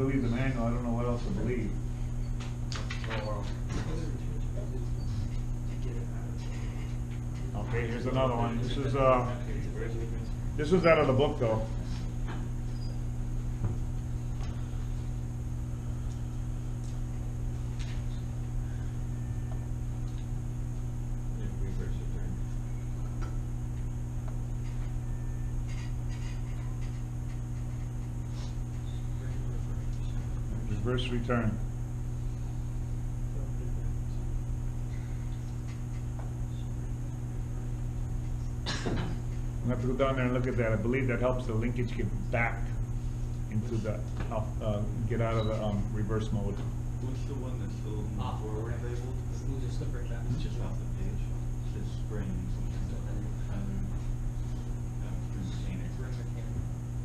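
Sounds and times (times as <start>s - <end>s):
faint high whine: 0.0s - 57.0s
low electrical hum: 0.0s - 57.0s.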